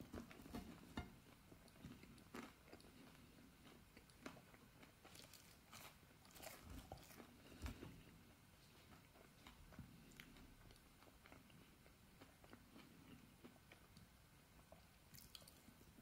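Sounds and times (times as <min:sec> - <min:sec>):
chewing fries: 0:00.0 - 0:16.0.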